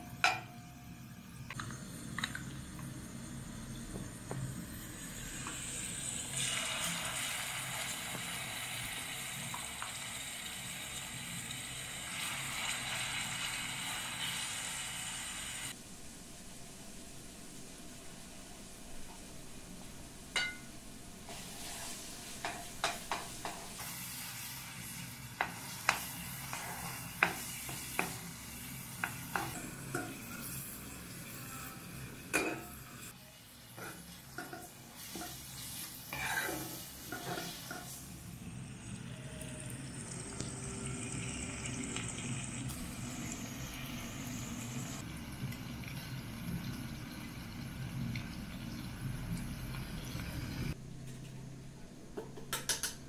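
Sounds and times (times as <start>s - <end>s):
beans sizzling in a pot: 1.4s - 15.8s, 20.4s - 50.8s.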